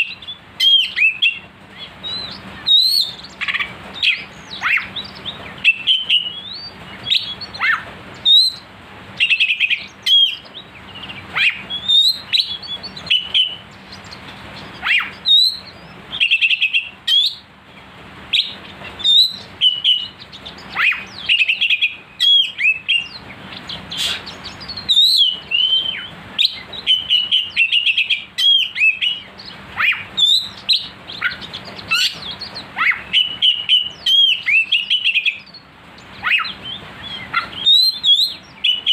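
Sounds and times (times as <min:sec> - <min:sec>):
bird song whistles and chirps: 0:00.0 - 0:38.9.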